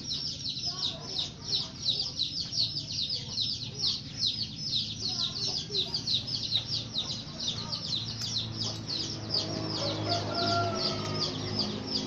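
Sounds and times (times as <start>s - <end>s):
small bird chirping rapidly: 0.0s - 12.0s.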